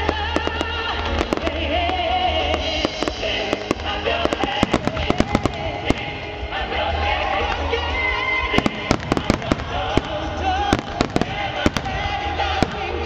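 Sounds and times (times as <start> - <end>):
fireworks bangs and crackles: 0.0 - 13.0
music with held melody: 0.0 - 13.0.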